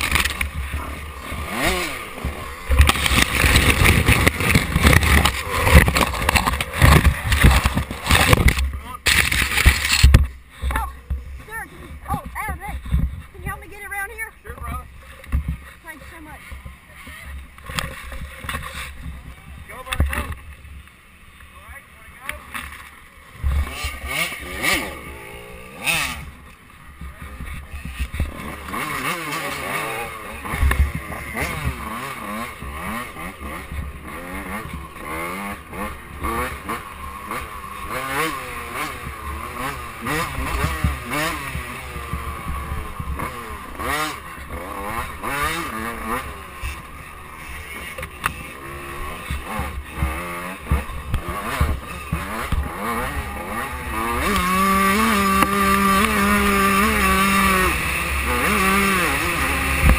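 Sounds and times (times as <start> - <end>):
bike rattling over bumps: 0.0 - 20.9, 22.2 - 59.9
dirt bike engine revving: 0.0 - 59.9.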